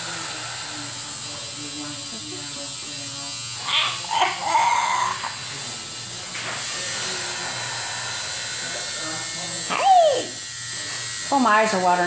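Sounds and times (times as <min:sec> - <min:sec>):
steady electric buzz: 0:00.0 - 0:12.0.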